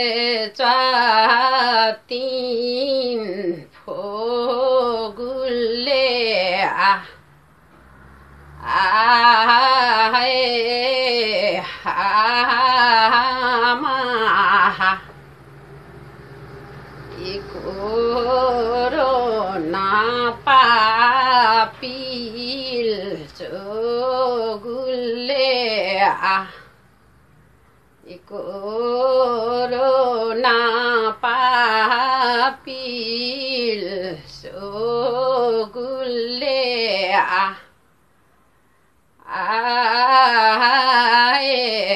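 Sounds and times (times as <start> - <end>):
woman singing unaccompanied: 0.0 - 7.2, 8.6 - 15.2, 17.0 - 26.7, 28.0 - 37.8, 39.2 - 41.9.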